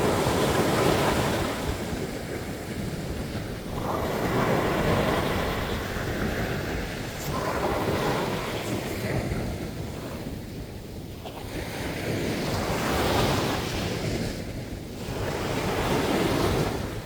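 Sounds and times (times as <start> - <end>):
sea waves breaking on sandy beach: 0.0 - 17.0
wind on microphone: 0.0 - 17.0.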